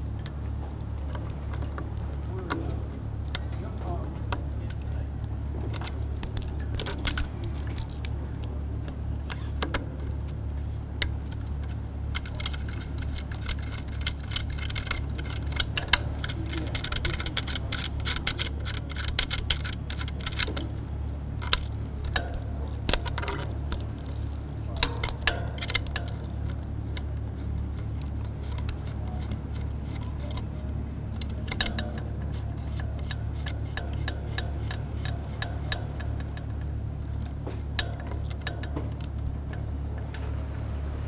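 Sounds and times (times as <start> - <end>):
steady low hum: 0.0 - 41.0
metallic clicks and jingles of cables: 0.2 - 9.4, 10.0 - 40.2.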